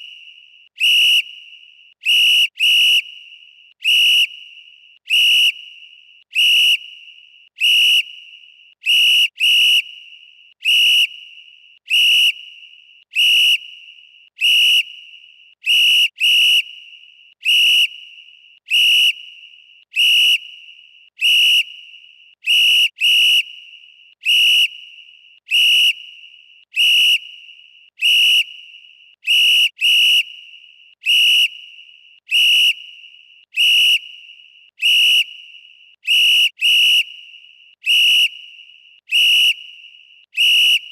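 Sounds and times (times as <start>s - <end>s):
referee whistle blasts: 0.0s - 5.8s, 6.4s - 10.1s, 10.7s - 11.3s, 11.9s - 12.5s, 13.2s - 19.4s, 24.3s - 40.9s.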